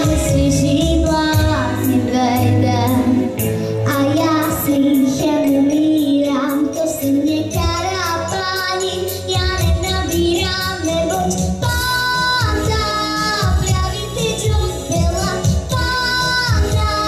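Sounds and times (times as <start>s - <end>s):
backing music with steady beat: 0.0s - 17.0s
girl singing into microphone: 0.0s - 17.0s.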